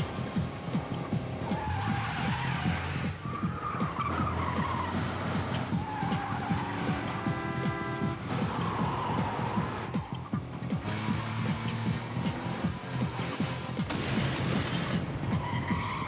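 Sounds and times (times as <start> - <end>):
fast rhythmic music: 0.0 - 13.8
car tyres squealing: 0.0 - 14.0, 14.6 - 16.0.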